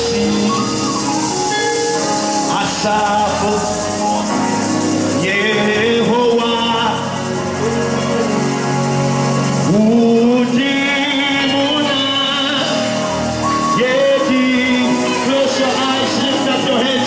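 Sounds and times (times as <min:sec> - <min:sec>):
gospel band with keyboard: 0:00.0 - 0:17.0
male singer: 0:00.0 - 0:17.0
shakers or tambourine: 0:00.0 - 0:17.0.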